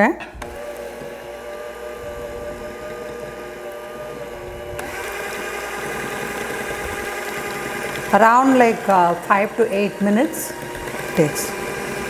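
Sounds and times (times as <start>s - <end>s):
electric hand mixer whipping: 0.3s - 12.0s.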